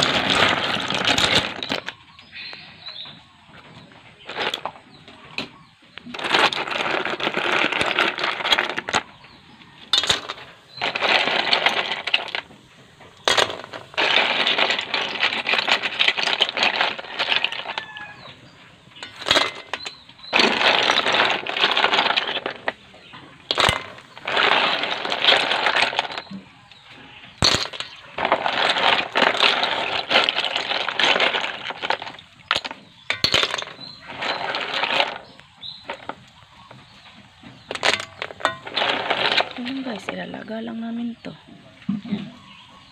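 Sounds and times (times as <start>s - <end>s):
shells clattering and scraping: 0.0s - 3.2s, 3.8s - 40.2s.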